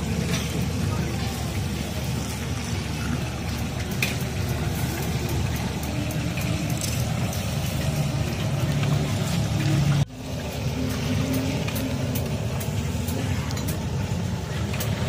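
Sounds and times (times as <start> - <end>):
gas burner roaring: 0.0 - 15.0.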